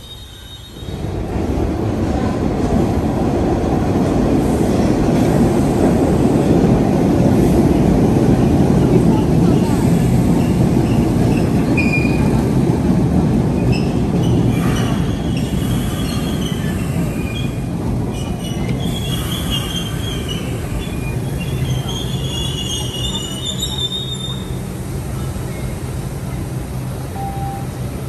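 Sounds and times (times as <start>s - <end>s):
subway train rumbling on rails: 0.0s - 28.0s.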